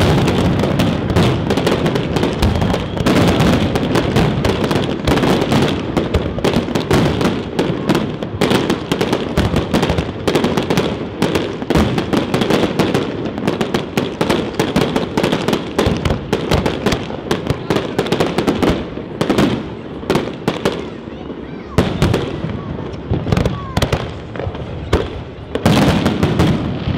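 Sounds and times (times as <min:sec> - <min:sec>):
fireworks bursting and crackling: 0:00.0 - 0:26.9.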